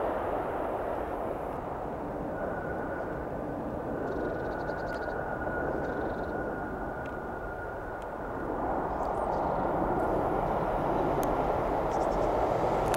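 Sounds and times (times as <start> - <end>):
jet engines rushing with whine: 0.0 - 12.9.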